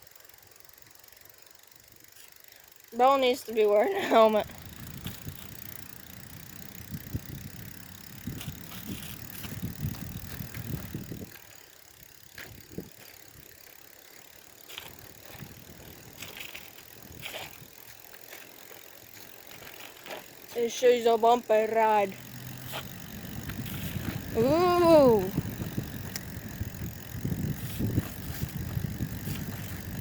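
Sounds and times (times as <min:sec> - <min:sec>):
bike clicks and rattles: 0:00.0 - 0:30.0
bicycle rumbling over bumpy surface: 0:00.1 - 0:30.0.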